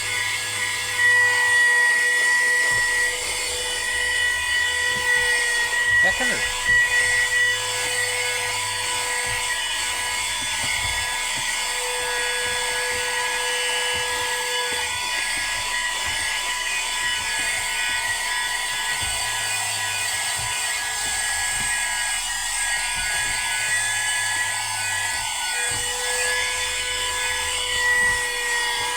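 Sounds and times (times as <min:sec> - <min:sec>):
handheld vacuum cleaner running: 0:00.0 - 0:28.9.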